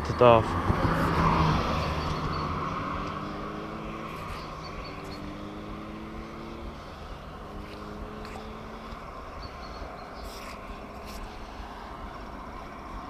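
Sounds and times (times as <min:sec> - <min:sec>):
distant engine hum: 0:00.0 - 0:13.0.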